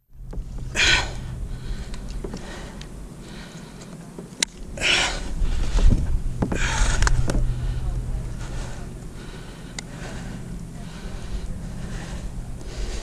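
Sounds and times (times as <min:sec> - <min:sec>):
low rumble: 0:00.0 - 0:13.0
person breathing hard: 0:00.6 - 0:04.1, 0:04.7 - 0:13.0.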